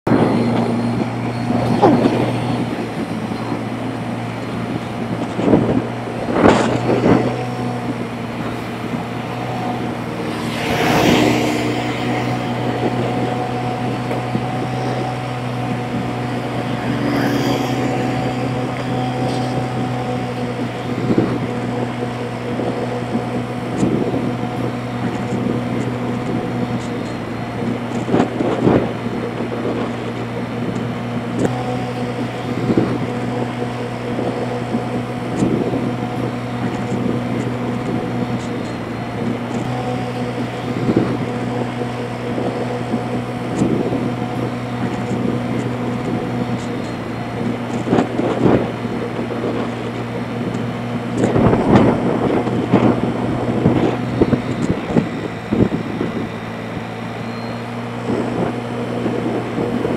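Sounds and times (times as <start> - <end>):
motorbike engine running: 0.0 - 59.9
road and wind noise: 0.0 - 59.9.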